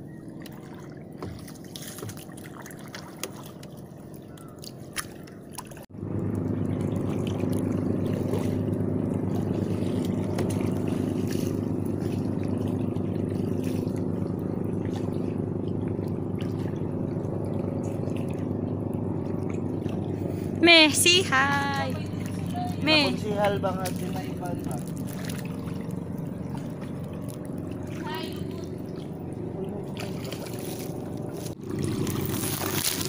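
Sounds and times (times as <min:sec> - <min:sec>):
steady low hum: 0:05.9 - 0:33.0.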